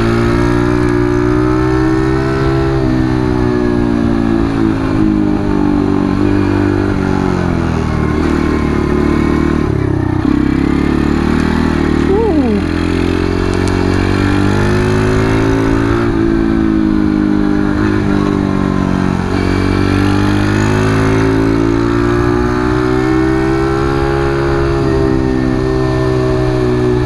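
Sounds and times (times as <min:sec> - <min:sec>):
motorcycle engine at high revs: 0:00.0 - 0:27.0.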